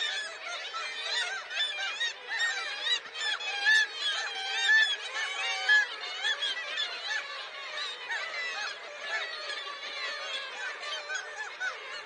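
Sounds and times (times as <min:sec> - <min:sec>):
kittiwake colony calling: 0:00.0 - 0:12.0.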